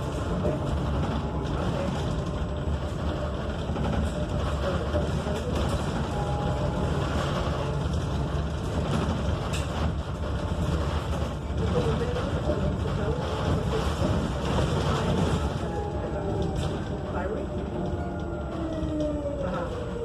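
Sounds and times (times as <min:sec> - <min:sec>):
bus road and tyre rumble: 0:00.0 - 0:20.0.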